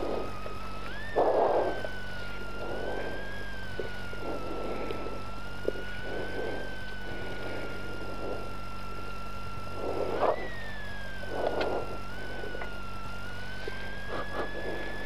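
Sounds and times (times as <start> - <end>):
engine whine: 0.0 - 15.0.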